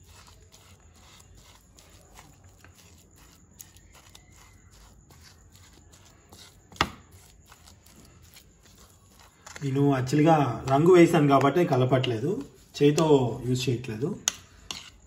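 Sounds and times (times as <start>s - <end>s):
spoon scraping on a plate: 0.0s - 15.0s.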